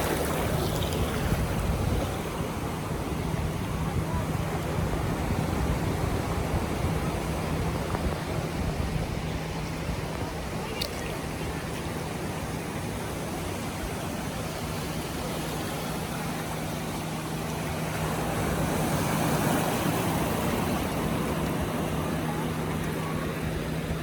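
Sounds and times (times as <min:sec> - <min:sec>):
ocean surf washing onto beach: 0:00.0 - 0:24.0
wind rumbling on microphone: 0:00.0 - 0:24.0.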